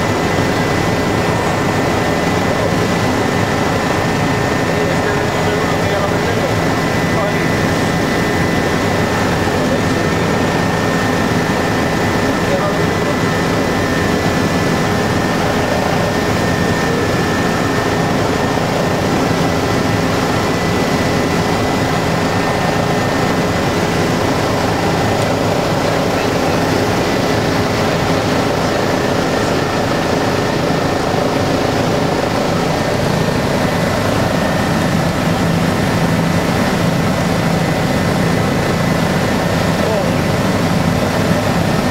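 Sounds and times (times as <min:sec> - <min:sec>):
helicopter engine and rotors drone: 0:00.0 - 0:41.9.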